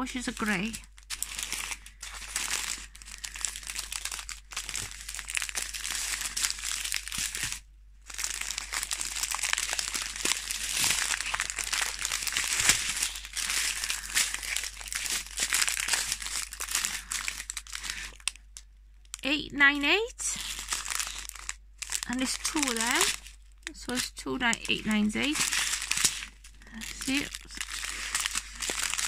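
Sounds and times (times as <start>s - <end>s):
plastic bags crinkling: 0.0s - 19.3s, 20.2s - 29.0s.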